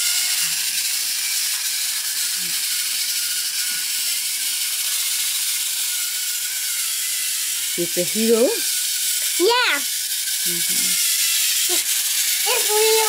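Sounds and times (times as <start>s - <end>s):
toy train motor whirring: 0.0s - 13.0s.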